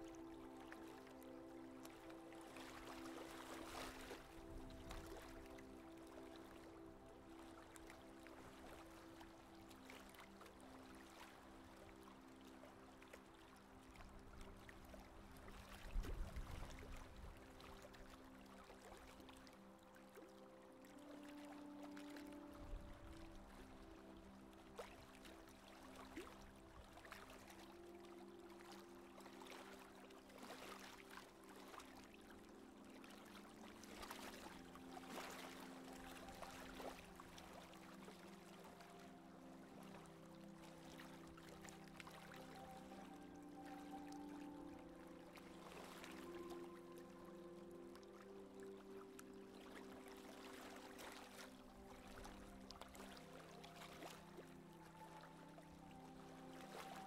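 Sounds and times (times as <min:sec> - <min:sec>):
soft background music chords: 0:00.0 - 0:57.0
water rushing along a hull: 0:00.0 - 0:57.0.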